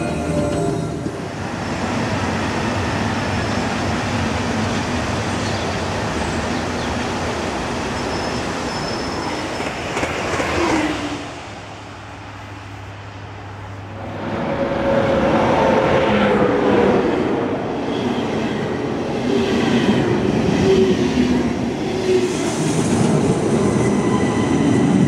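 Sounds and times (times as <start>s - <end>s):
electric trains passing: 0.0s - 25.0s
fast train passing with whine: 0.0s - 25.0s.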